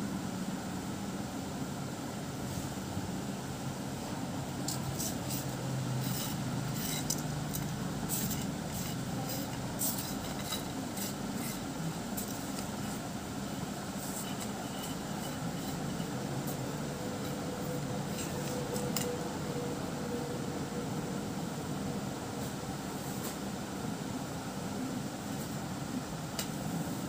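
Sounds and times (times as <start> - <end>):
low hum with hiss: 0.0 - 27.0.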